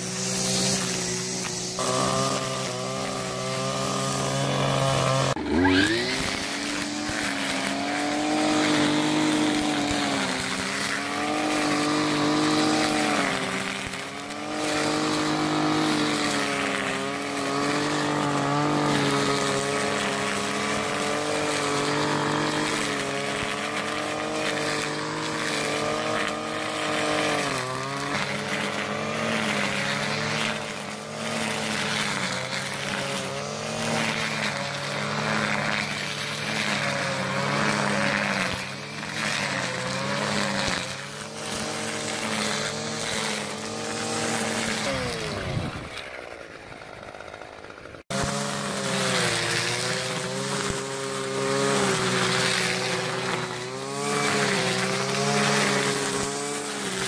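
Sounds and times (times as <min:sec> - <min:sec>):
brushcutter engine revving: 0:00.0 - 0:57.0.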